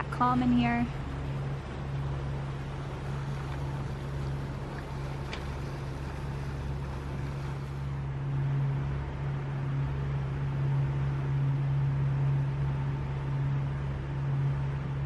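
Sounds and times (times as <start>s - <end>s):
boat diesel engines humming: 0.0s - 15.0s
water noise: 0.0s - 15.0s
wind: 0.0s - 15.0s.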